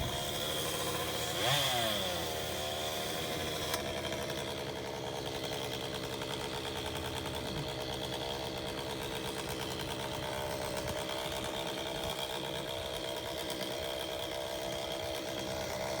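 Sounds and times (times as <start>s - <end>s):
chainsaw engine cutting: 0.0s - 16.0s.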